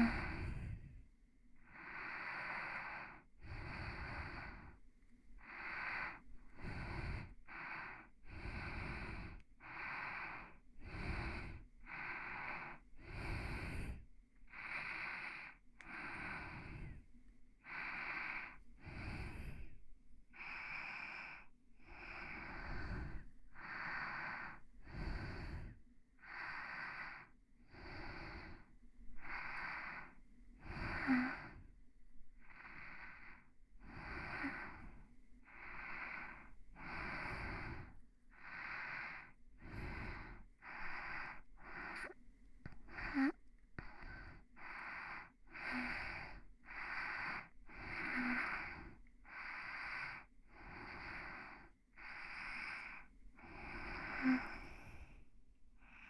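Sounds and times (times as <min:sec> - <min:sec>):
soft airy breathing: 0:00.0 - 0:56.0.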